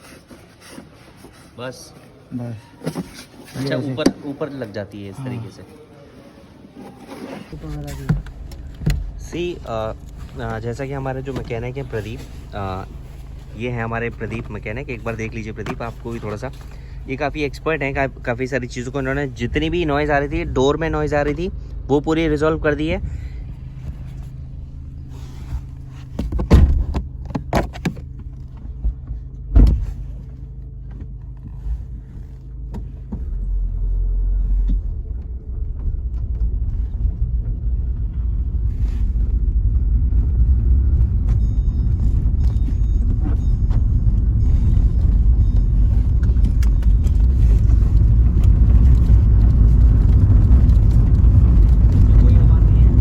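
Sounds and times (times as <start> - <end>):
road rumble: 7.2 - 53.0
car engine idling: 7.6 - 53.0.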